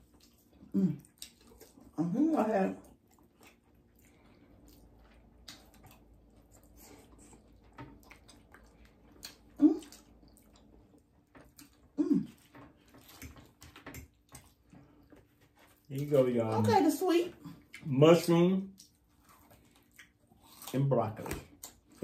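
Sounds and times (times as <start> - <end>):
faint steady hum: 0.0 - 22.0
wet chewing and mouth clicks: 0.0 - 22.0.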